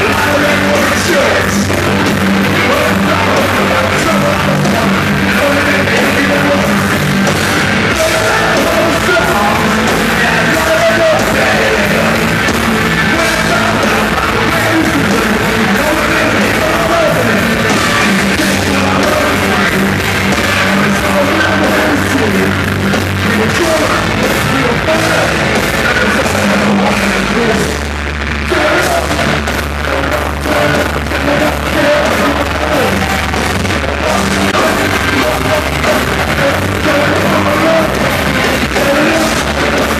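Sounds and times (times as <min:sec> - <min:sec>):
loud rock band playing: 0:00.0 - 0:39.9
shouted vocals: 0:00.0 - 0:39.9.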